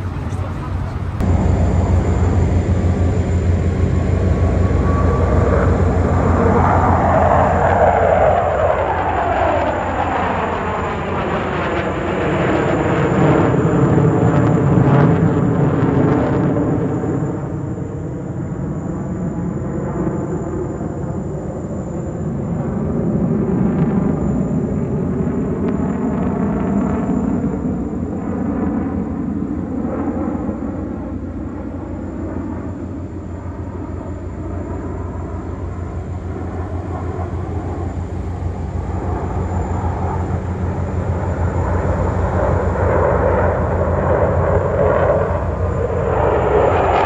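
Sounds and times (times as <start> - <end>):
jet engines roaring: 0.0 - 47.0
jet whine falling in pitch: 0.0 - 47.0.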